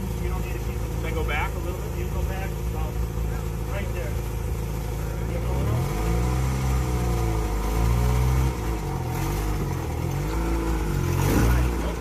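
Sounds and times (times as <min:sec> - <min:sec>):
engine revving: 0:00.0 - 0:12.0.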